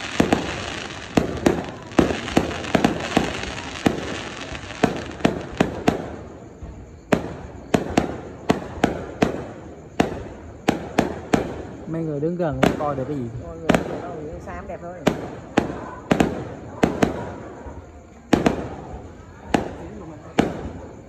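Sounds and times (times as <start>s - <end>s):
fireworks bangs: 0.0s - 21.0s
fizzing crackle of fireworks: 0.0s - 21.0s.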